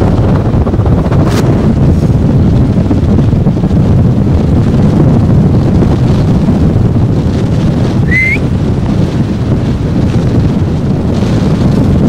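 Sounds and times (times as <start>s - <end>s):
wind gusts on microphone: 0.0s - 12.0s.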